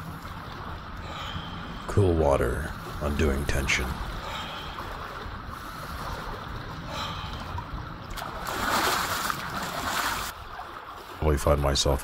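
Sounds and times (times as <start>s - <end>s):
wind rumbling on microphone: 0.0s - 10.7s
small waves lapping: 0.0s - 12.0s.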